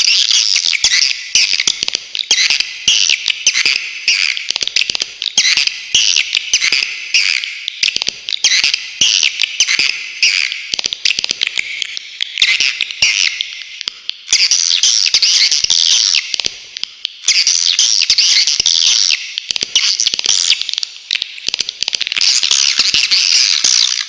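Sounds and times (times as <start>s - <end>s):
sharp clicks: 0.8s - 23.1s.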